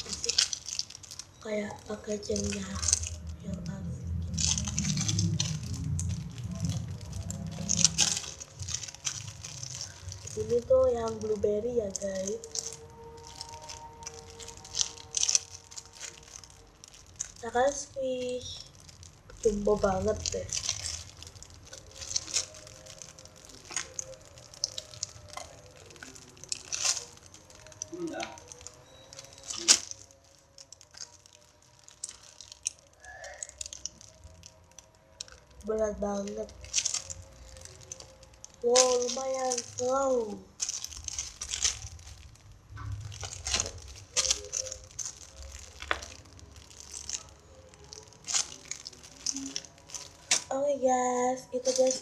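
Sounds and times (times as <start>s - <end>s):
crinkly crackles: 0.0s - 52.0s
squishy toy rustling: 0.0s - 52.0s.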